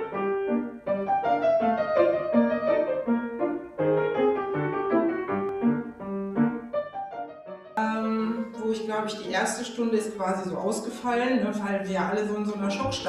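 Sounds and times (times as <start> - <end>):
piano music: 0.0 - 10.7, 12.4 - 13.0.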